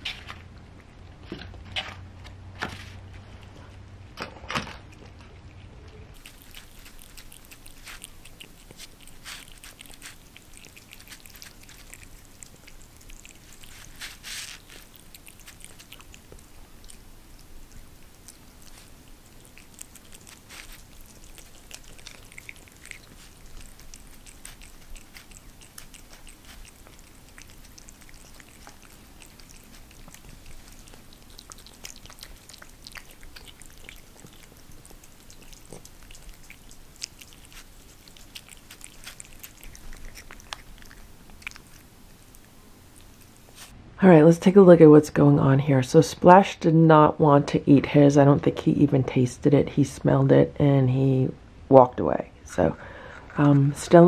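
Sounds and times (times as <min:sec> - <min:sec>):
cats chewing and licking food: 0:00.0 - 0:44.6.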